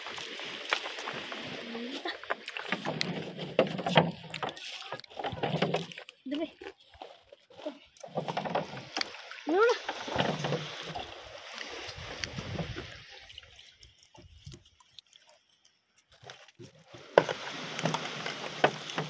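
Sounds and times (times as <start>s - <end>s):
water sloshing and lapping: 0.0s - 19.0s.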